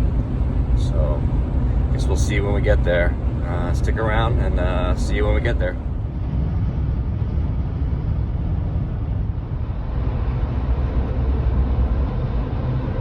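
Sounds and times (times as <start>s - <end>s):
faint steady hum: 0.0s - 13.0s
vehicle engine and road rumble: 0.0s - 13.0s.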